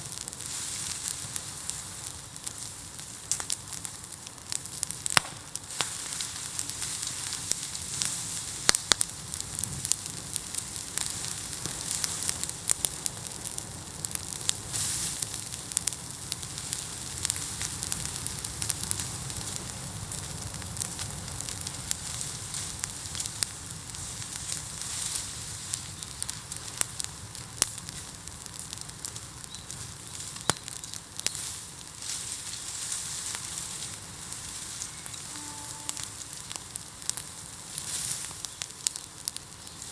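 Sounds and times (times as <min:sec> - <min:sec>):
bonfire crackling: 0:00.0 - 0:39.9
sharp pops from fire: 0:00.0 - 0:39.9.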